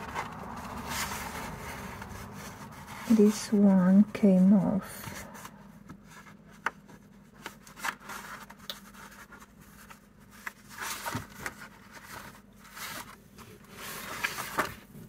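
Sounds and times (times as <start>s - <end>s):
paper and card rubbing: 0.0s - 14.8s.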